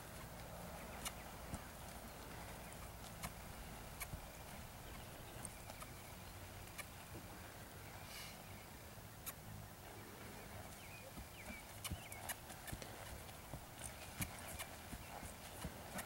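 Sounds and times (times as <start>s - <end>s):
horse hoofbeats on dirt: 0.0s - 7.2s, 10.2s - 16.0s.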